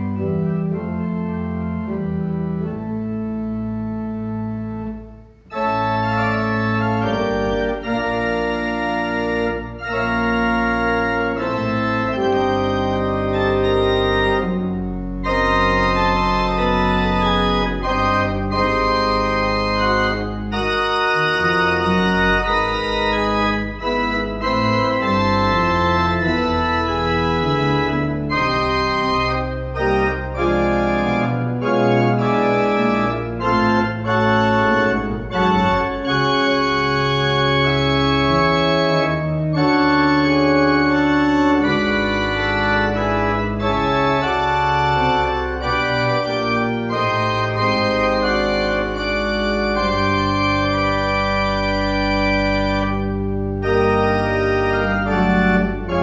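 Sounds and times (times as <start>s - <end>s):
church pipe organ playing: 0.0s - 56.0s.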